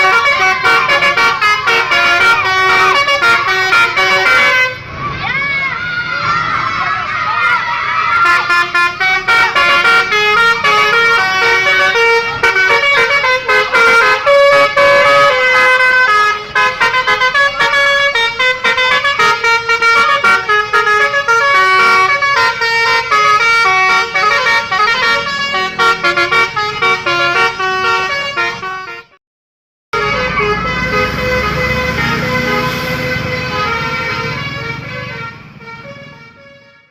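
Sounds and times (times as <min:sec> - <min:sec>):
bus horn playing melody: 0:00.0 - 0:04.9, 0:08.2 - 0:29.2, 0:29.9 - 0:36.9.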